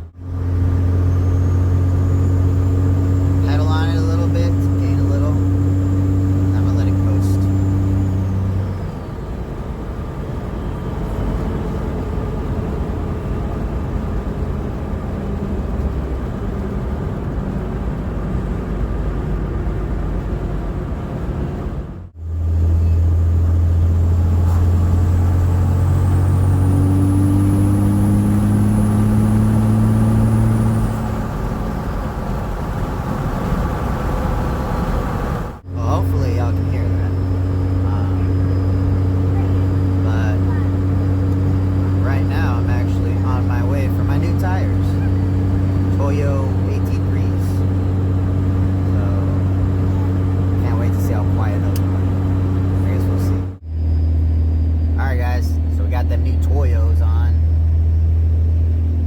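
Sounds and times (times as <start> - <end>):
diesel engine drone: 0.0 - 59.0
tire road noise rushing: 0.0 - 59.0.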